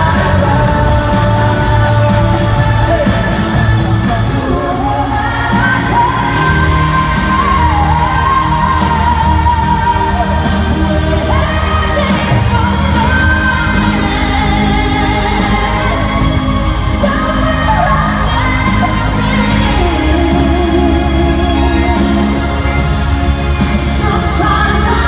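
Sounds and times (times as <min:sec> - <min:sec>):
live pop band: 0:00.0 - 0:25.0
person singing: 0:00.0 - 0:25.0.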